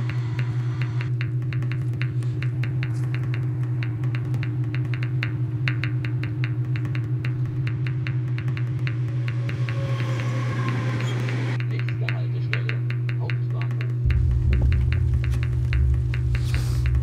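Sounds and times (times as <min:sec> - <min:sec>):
low drone: 0:00.0 - 0:11.6, 0:14.0 - 0:17.0
fast ticking clicks: 0:00.2 - 0:09.5, 0:11.0 - 0:17.0.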